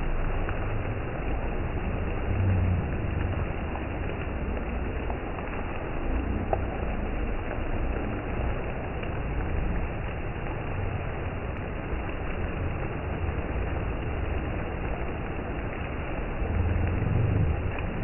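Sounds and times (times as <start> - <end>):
low rumble: 0.0 - 18.0
steady rain: 0.0 - 18.0.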